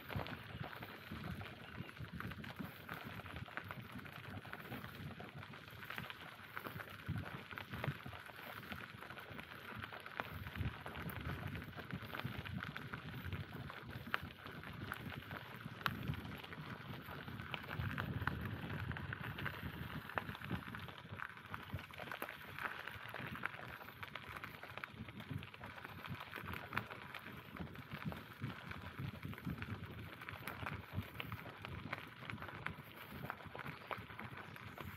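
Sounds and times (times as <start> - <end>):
bicycle tyres rolling: 0.0 - 34.9.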